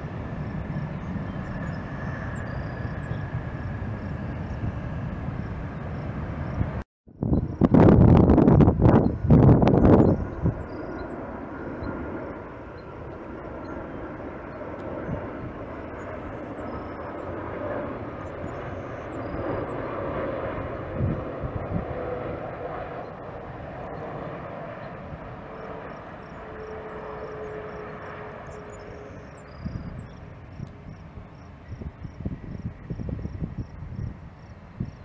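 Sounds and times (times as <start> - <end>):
jet engine rumble with whine: 0.0 - 35.0.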